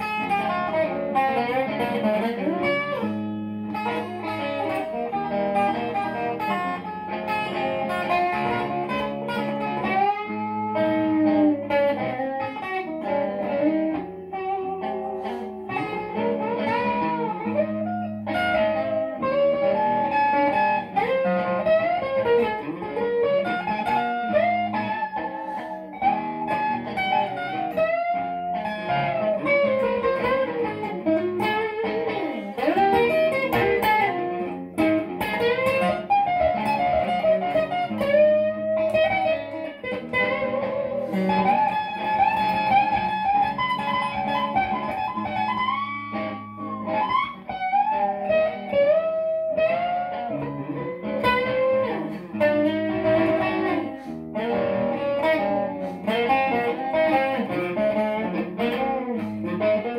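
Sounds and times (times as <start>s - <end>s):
electric guitar blues solo: 0.0s - 59.9s.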